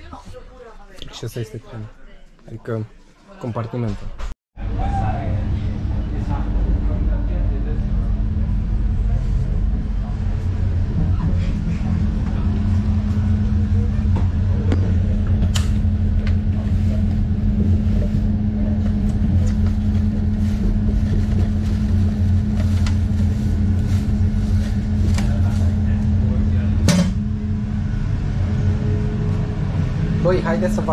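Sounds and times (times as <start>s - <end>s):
train rumble and hum: 4.6s - 30.9s.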